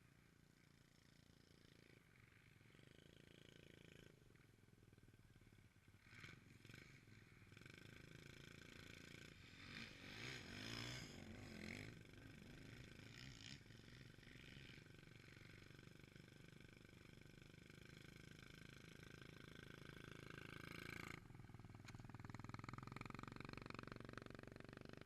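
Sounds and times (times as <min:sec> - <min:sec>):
motocross bike engine: 0:00.0 - 0:25.0.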